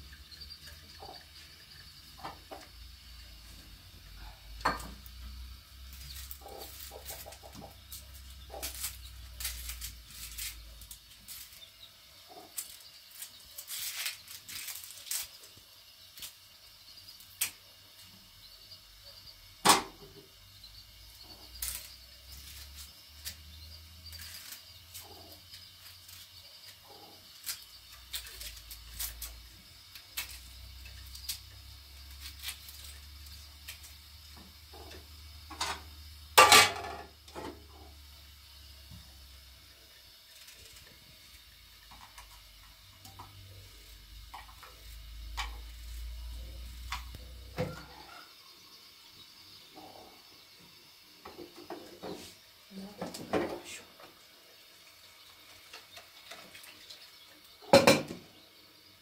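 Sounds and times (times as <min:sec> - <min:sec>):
onion skins crackling and rustling: 0:00.0 - 0:18.4, 0:20.9 - 0:35.6, 0:36.4 - 0:48.2, 0:51.8 - 0:57.7.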